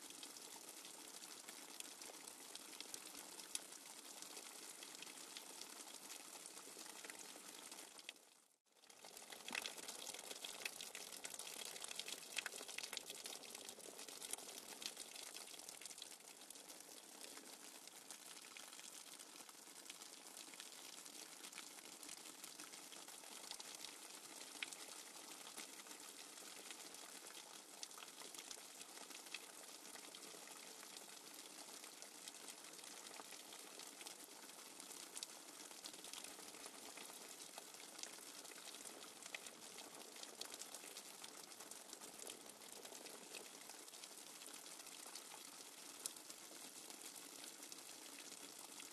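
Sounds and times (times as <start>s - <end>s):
small crackles: 0.0s - 48.9s.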